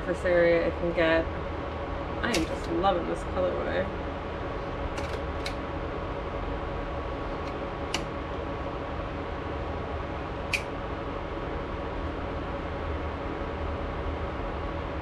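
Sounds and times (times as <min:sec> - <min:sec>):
induction cooktop hum and whine: 0:00.0 - 0:15.0.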